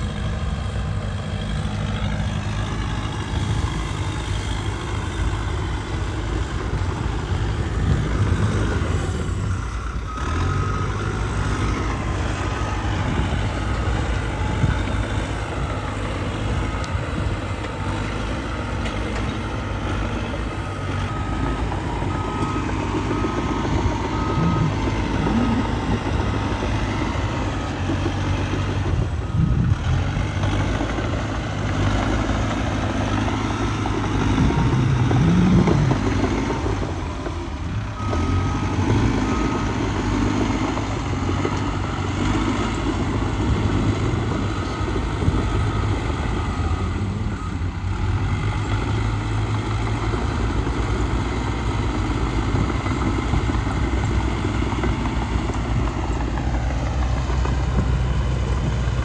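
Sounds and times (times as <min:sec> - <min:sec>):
bulldozer diesel engine: 0:00.0 - 0:59.0
reversing alarm beeping: 0:01.9 - 0:57.9.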